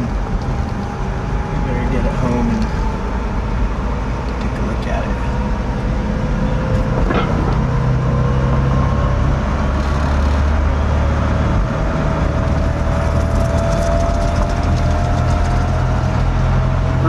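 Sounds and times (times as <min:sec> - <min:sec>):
road and drivetrain rumble: 0:00.0 - 0:17.0.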